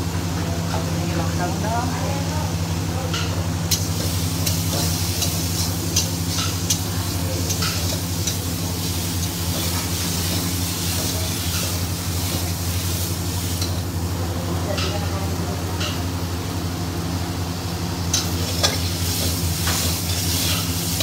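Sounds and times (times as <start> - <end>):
steady low hum: 0.0 - 21.0
food sizzling in pan: 2.6 - 21.0.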